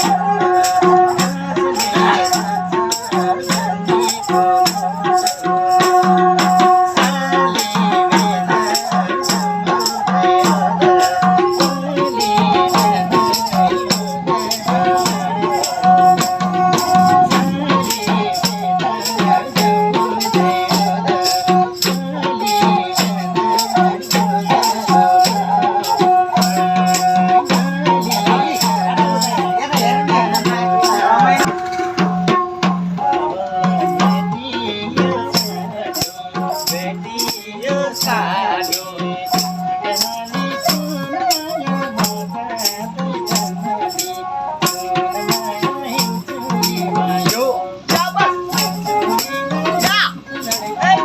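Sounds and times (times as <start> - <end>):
rattling percussion beat: 0.0 - 51.0
sarangi melody: 0.0 - 51.0.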